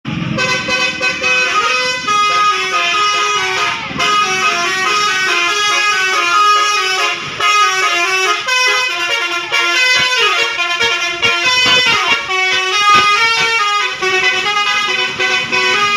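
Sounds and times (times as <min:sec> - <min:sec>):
multi-tone air horn melody: 0:00.2 - 0:15.9.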